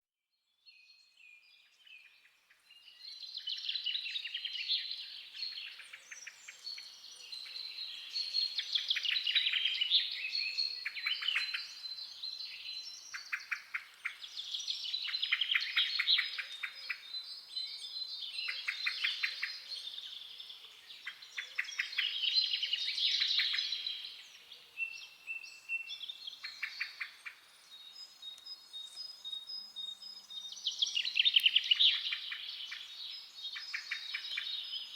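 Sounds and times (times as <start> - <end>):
songbirds trilling and chirping: 0.9 - 34.9.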